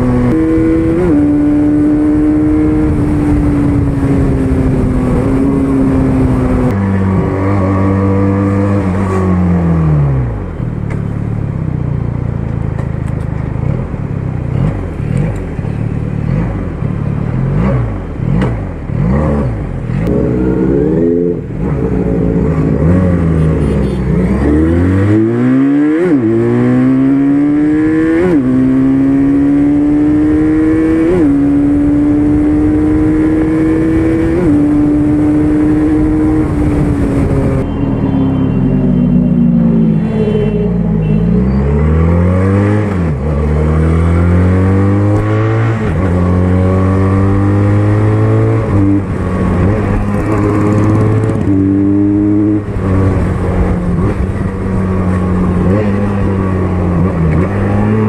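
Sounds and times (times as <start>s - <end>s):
motorcycle engine revving: 0.0s - 11.7s, 13.4s - 58.0s.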